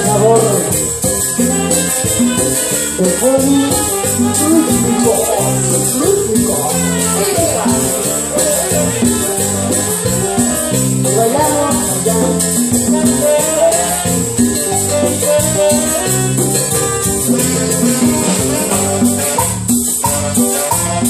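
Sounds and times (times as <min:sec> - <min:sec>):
bass line: 0:00.0 - 0:21.0
congas: 0:00.0 - 0:21.0
drum kit: 0:00.0 - 0:21.0
keyboard: 0:00.0 - 0:21.0
saxophone: 0:00.0 - 0:21.0.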